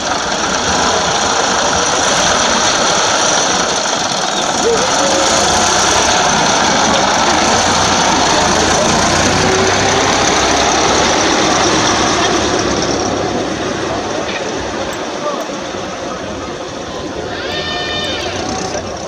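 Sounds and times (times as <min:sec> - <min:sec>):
fire engine driving past: 0:00.0 - 0:19.0.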